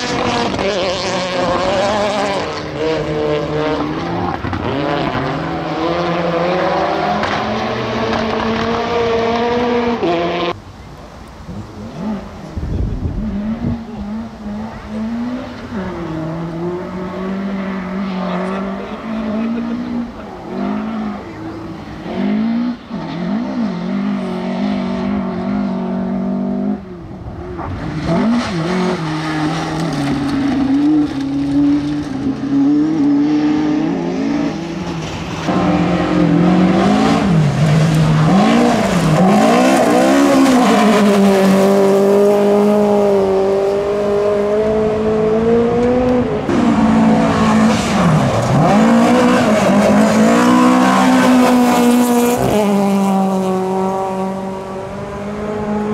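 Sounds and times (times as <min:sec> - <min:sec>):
rally car engines at full throttle: 0:00.0 - 0:55.9.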